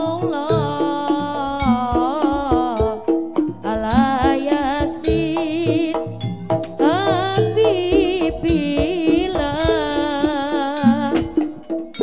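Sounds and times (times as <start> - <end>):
hand-drum strokes: 0.0 - 12.0.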